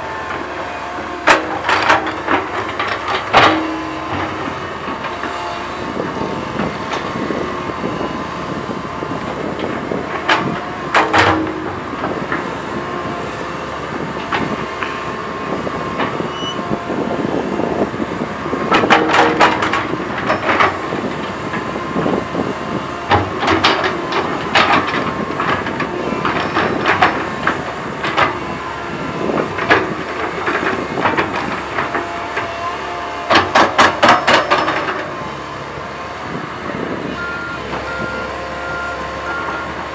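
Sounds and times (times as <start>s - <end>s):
excavator running: 0.0s - 39.9s.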